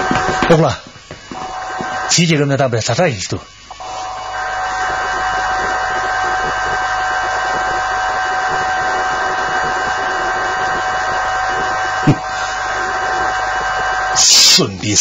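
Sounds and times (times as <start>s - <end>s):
constant high whine: 0.0s - 15.0s
steady loud hiss: 0.0s - 15.0s.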